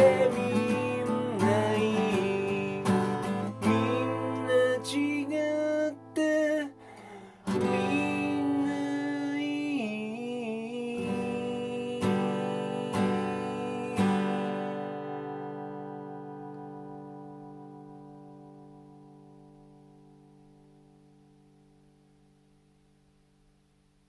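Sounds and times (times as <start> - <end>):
acoustic guitar strums: 0.0 - 23.9.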